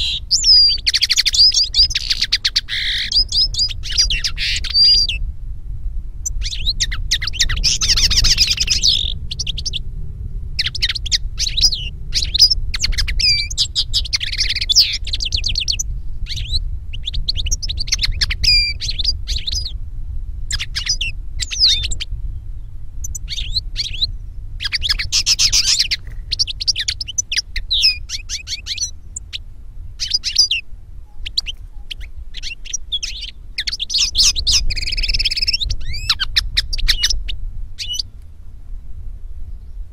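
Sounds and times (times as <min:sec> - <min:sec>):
finches twittering: 0:00.0 - 0:05.2, 0:06.2 - 0:09.8, 0:10.6 - 0:19.7, 0:20.5 - 0:22.1, 0:23.0 - 0:29.4, 0:30.0 - 0:38.0
steady low hum: 0:00.0 - 0:39.9.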